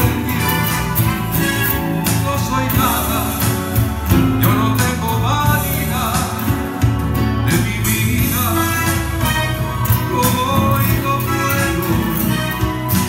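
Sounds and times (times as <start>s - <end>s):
acoustic guitars playing bolero: 0.0s - 13.0s
man singing into microphone: 2.0s - 13.0s.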